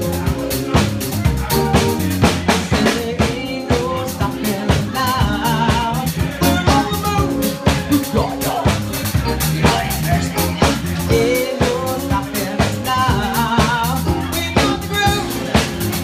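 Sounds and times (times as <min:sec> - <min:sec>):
drum kit beat: 0:00.0 - 0:16.0
soul band playing: 0:00.0 - 0:16.0.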